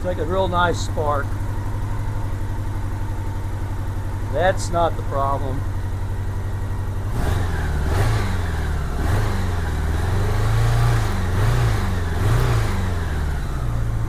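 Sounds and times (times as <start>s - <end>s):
engine popping: 0.0s - 14.0s
motorcycle engine revving: 0.0s - 14.0s.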